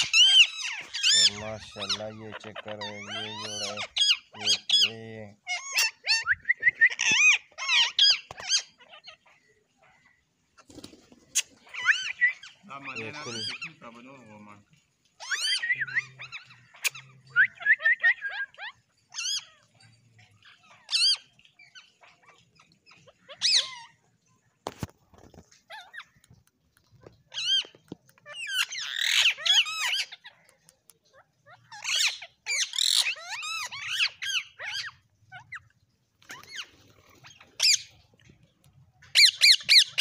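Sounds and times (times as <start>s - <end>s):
parakeets screeching: 0.0s - 14.6s, 15.2s - 24.0s, 27.1s - 30.5s, 31.1s - 38.0s, 39.1s - 40.0s.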